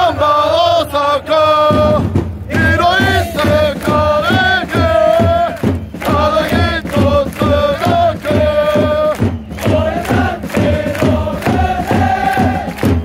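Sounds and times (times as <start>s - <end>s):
football supporters chanting: 0.0s - 13.0s
steady drum beat: 1.6s - 13.0s.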